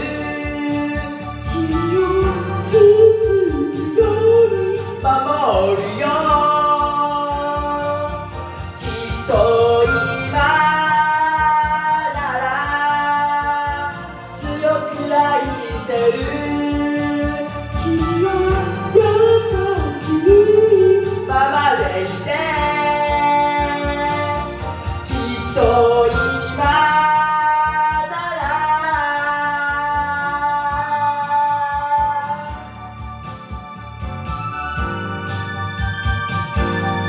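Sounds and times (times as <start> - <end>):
man singing into a microphone: 0.0 - 32.7
karaoke backing track: 0.0 - 37.0.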